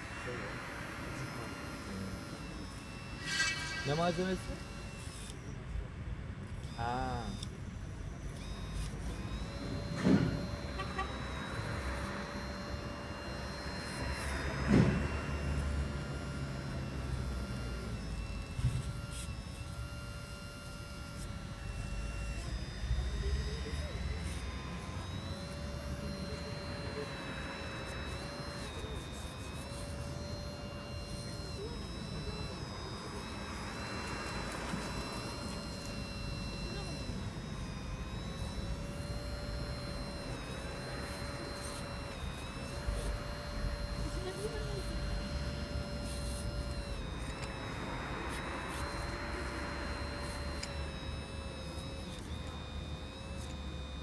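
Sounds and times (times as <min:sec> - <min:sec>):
hydraulic pump whining: 0:00.0 - 0:54.0.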